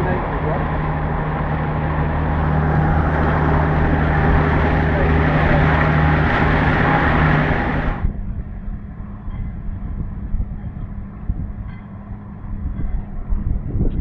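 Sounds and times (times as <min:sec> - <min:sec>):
boat engine drone: 0:00.0 - 0:14.0
rushing wind and water: 0:00.0 - 0:14.0
steady low hum: 0:00.0 - 0:14.0.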